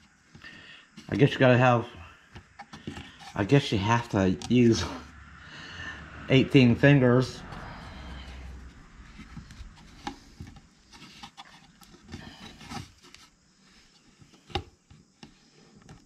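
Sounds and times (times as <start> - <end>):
rubbing and handling noise: 0.0 - 5.1, 7.4 - 16.0.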